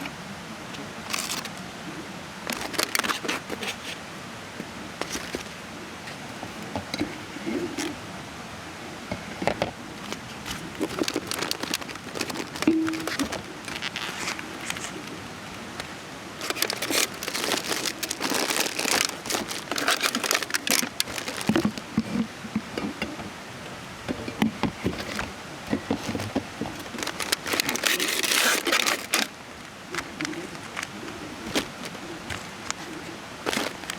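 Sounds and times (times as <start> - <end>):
rustling and crinkling: 1.0 - 1.7, 2.4 - 8.0, 9.1 - 23.4, 24.0 - 33.9.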